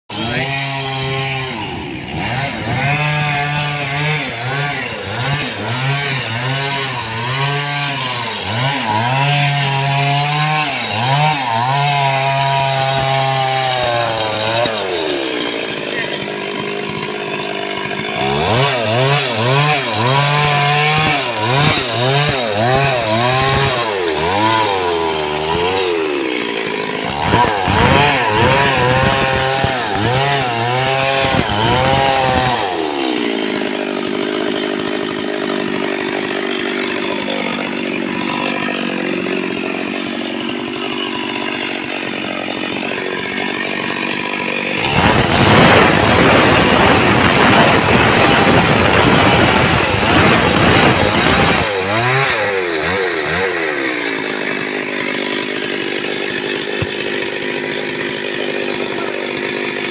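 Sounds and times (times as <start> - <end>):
chainsaw cutting wood: 0.1 - 59.9.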